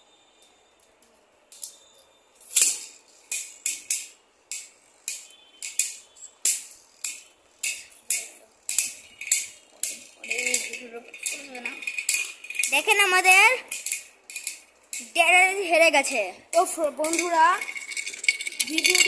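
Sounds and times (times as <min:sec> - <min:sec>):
spinning tops clashing on glass: 0:02.4 - 0:15.2, 0:15.9 - 0:19.0.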